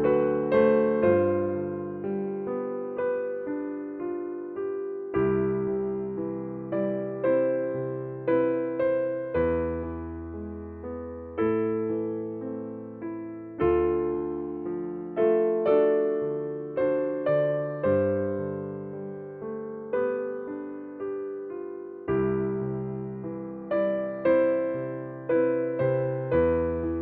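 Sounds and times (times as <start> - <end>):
slow gentle piano music: 0.0 - 27.0.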